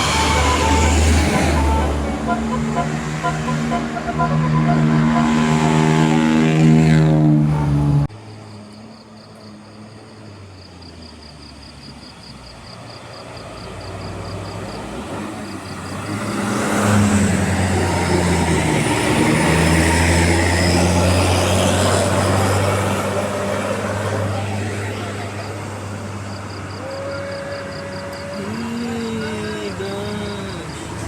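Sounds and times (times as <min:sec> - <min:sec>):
bus diesel engine climbing: 0:00.0 - 0:08.4, 0:09.6 - 0:31.0.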